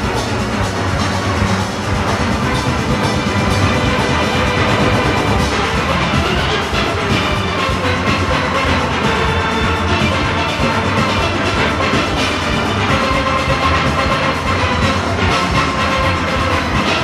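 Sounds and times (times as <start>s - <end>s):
drums and percussion: 0.0s - 17.0s
steel orchestra playing: 0.0s - 17.0s.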